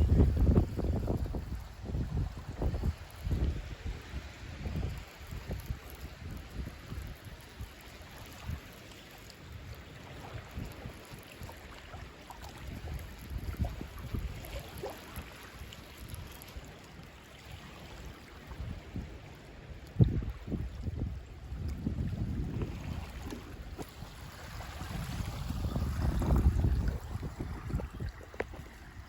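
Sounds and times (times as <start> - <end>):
wind buffeting microphone: 0.0 - 8.7, 9.5 - 16.4, 17.0 - 29.0.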